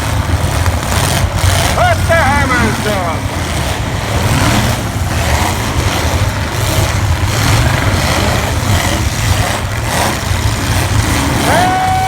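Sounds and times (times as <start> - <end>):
car engines running together: 0.0 - 12.0.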